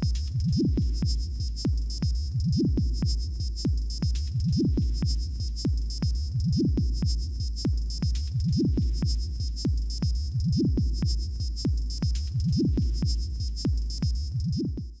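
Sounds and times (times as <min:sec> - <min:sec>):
deep thumping kick drums: 0:00.0 - 0:15.0.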